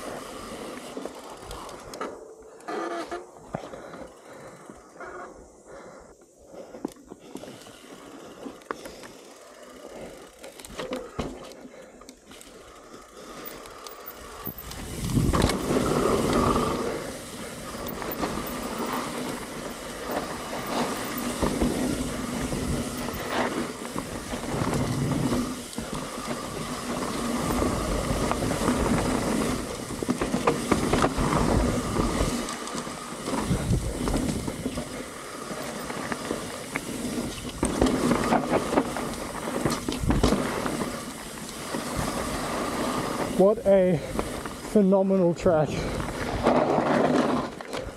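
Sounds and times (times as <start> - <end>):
bike tyres rolling on dirt: 0.0 - 47.9
bike rattling over bumps: 6.6 - 47.9.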